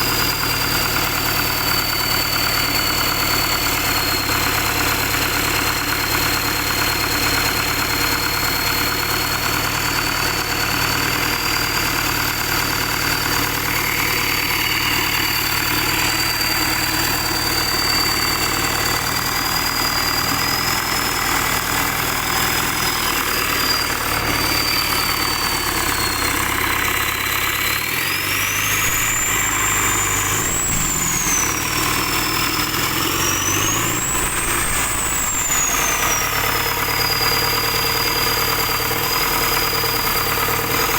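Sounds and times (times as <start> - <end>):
diesel truck engine idling: 0.0 - 40.9
high engine whine: 0.0 - 40.9.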